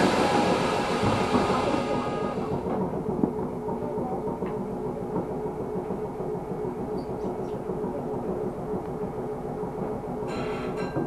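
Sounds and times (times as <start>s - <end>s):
steady hum: 0.0s - 11.0s
train wheels rumbling on rail: 0.0s - 11.0s.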